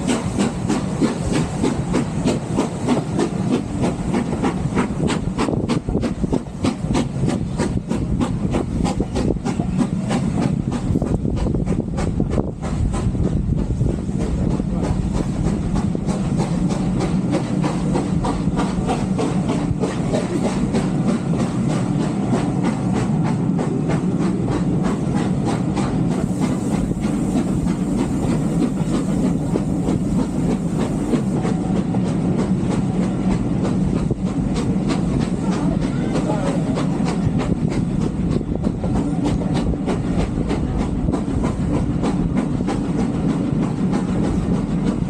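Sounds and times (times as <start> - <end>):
train carriages rumbling: 0.0 - 45.0.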